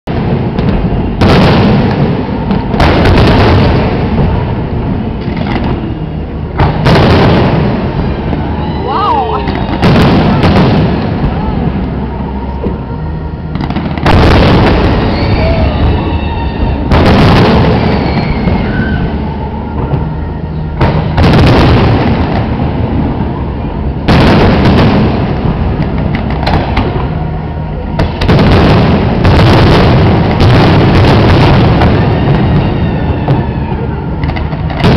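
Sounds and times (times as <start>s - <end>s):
firework shells booming: 0.1s - 34.9s.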